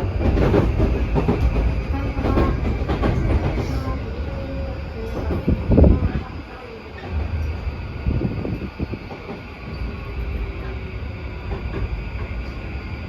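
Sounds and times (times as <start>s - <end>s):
rail joint clacks: 0.0s - 12.9s
train wheels rumbling on rail: 0.0s - 13.0s.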